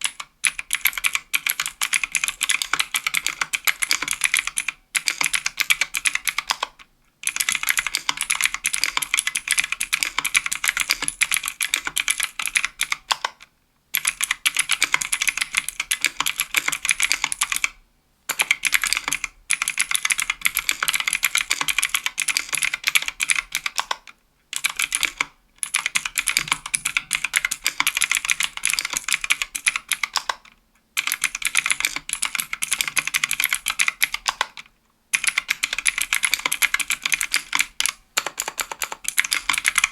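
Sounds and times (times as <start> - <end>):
fast typing on clicky keyboard: 0.0 - 39.9.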